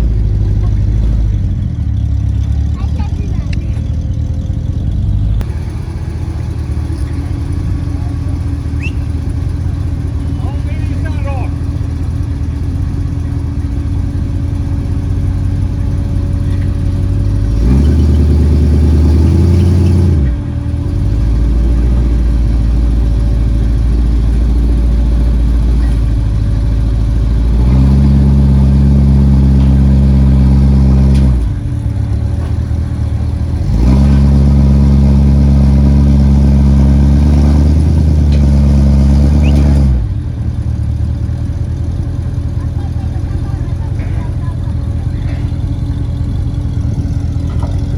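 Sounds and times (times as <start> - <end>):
car engine idling and revving: 0.0 - 47.9.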